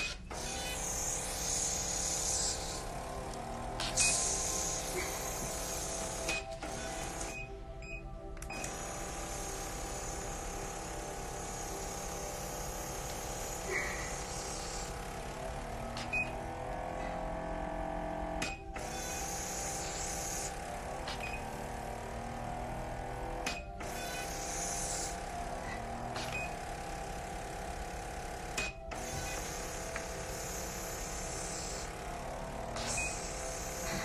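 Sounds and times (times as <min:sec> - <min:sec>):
electric microneedling pen running: 0:00.0 - 0:07.6, 0:08.4 - 0:34.0.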